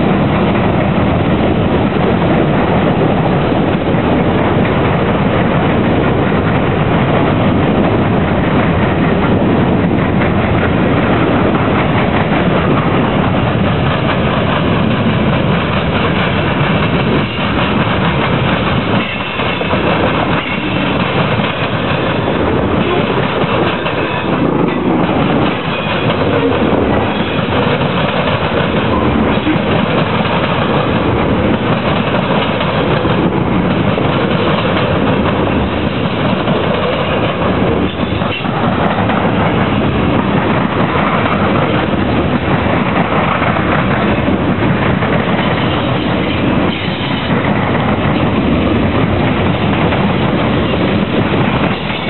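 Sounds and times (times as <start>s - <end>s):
freight train cars rolling past: 0.0s - 52.0s
steel wheels clattering over crossings: 0.0s - 52.0s.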